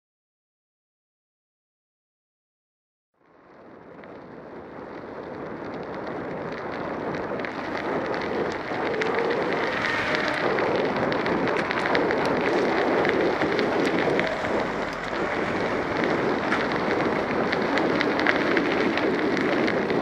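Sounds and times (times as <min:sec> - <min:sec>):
bicycle tyre and road noise: 0:03.2 - 0:20.0
wind rushing over microphone: 0:03.7 - 0:20.0.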